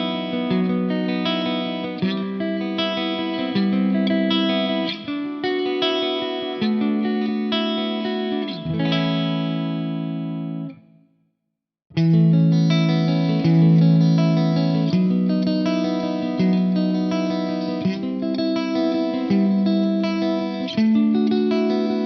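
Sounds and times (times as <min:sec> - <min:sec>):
electric guitar through an amp: 0:00.0 - 0:10.8, 0:12.0 - 0:22.0.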